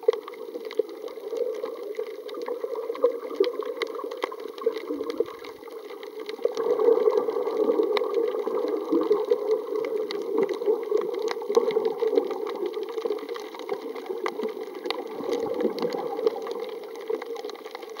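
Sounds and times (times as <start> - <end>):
muffled underwater water rush: 0.0 - 18.0
sharp clicks and crackles: 0.0 - 18.0.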